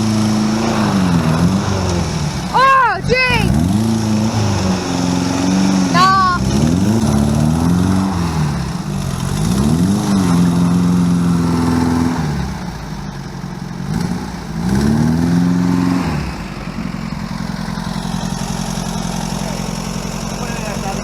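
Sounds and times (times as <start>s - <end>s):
vehicle engine revving and idling: 0.0s - 21.0s.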